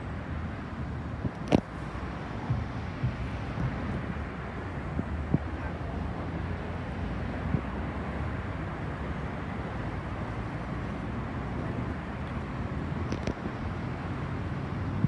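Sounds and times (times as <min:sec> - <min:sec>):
tram humming and rumbling: 0:00.0 - 0:15.0.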